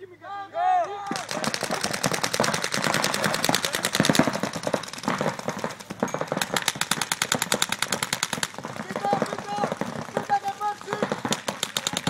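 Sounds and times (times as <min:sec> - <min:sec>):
paintball markers firing: 0:00.9 - 0:12.0.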